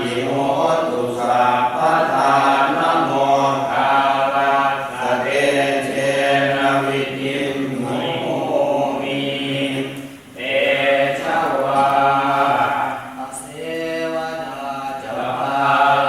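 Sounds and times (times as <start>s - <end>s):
men chanting in monotone: 0.0s - 16.0s.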